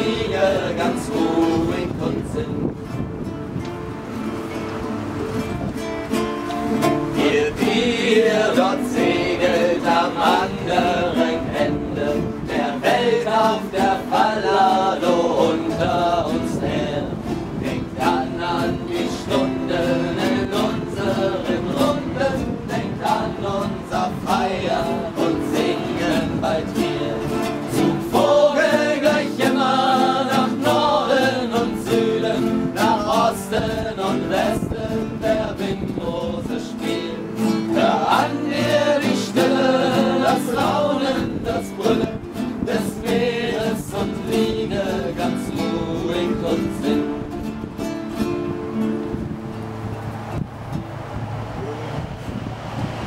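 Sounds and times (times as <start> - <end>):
group of voices singing: 0.0 - 2.9, 6.8 - 47.8
acoustic guitars strumming: 0.0 - 53.0.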